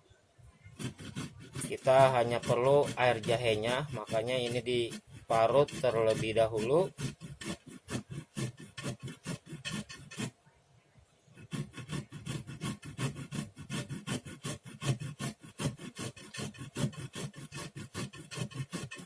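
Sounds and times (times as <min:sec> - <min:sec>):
ginger grated on a grater: 0:00.7 - 0:10.3, 0:11.4 - 0:19.0.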